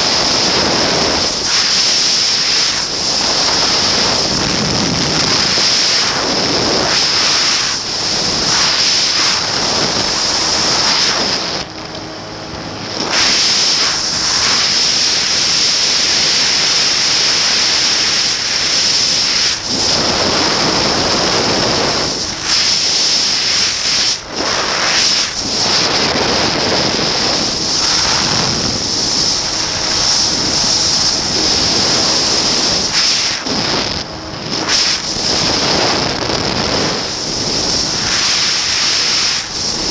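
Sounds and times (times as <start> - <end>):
aircraft engine running: 0.0 - 39.9
wind rush on microphone: 0.0 - 39.9.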